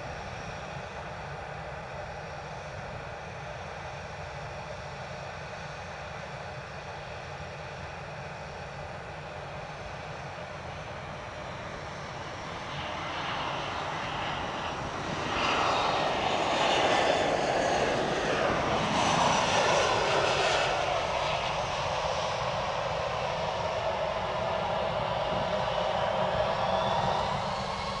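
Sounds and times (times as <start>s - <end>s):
jet airliner engines overhead: 0.0s - 28.0s.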